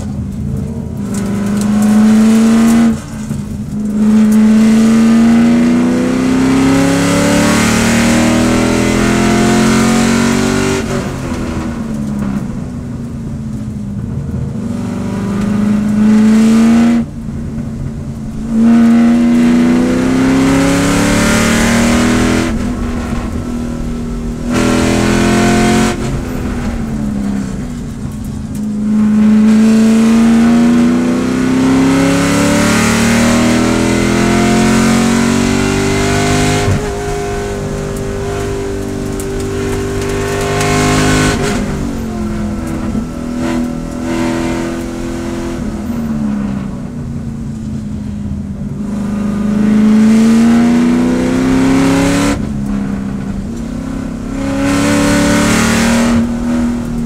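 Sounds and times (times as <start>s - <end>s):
race car engine revving: 0.0s - 12.7s, 13.6s - 47.8s, 48.6s - 57.0s.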